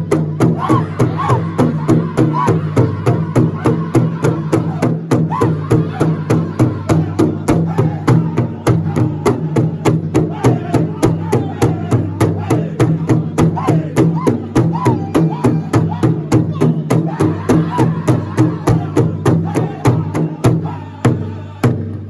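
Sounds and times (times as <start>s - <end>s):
group singing in unison: 0.0s - 22.0s
large hide drum beating: 0.0s - 22.0s.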